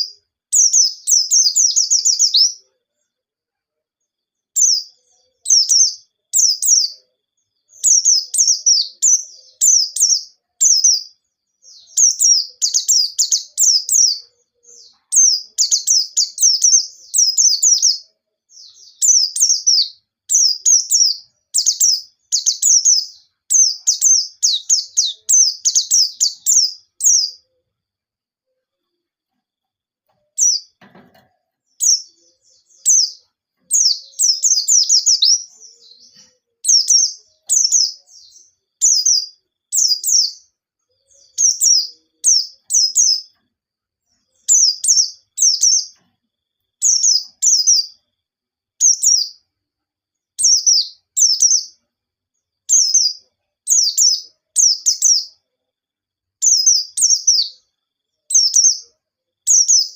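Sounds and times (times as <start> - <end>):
bird singing high chirping trills: 0.0 - 3.1, 4.0 - 27.7, 30.1 - 43.5, 44.1 - 46.1, 46.8 - 48.1, 48.8 - 49.6, 50.2 - 51.9, 52.5 - 55.5, 56.4 - 59.9.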